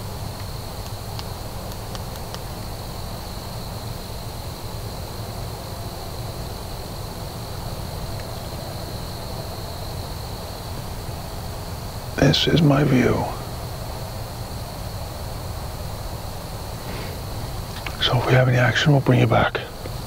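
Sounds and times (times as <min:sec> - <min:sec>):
crickets trilling: 0:00.0 - 0:20.0
low even hiss: 0:00.0 - 0:20.0.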